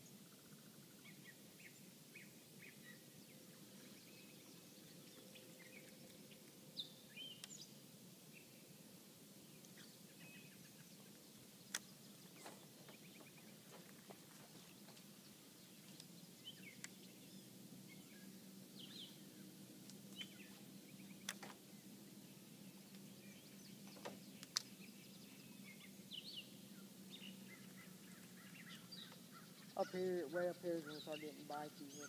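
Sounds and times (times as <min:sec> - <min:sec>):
faint bird chirps: 0:00.0 - 0:32.0.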